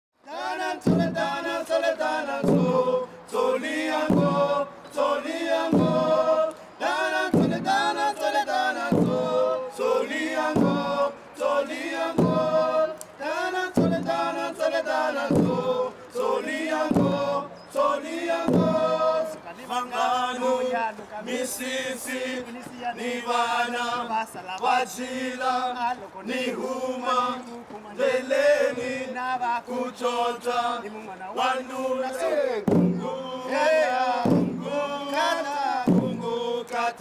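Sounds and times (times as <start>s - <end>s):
men chanting: 0.2s - 37.0s.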